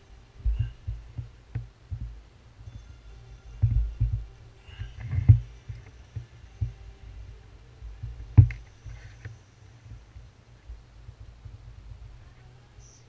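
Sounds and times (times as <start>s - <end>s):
soft low thuds: 0.0s - 12.7s.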